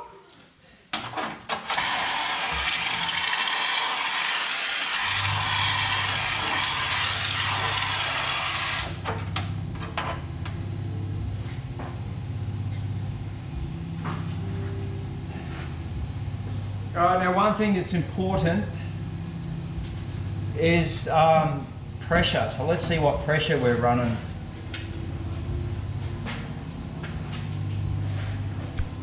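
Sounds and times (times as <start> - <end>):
steady low hum: 5.0 - 29.0.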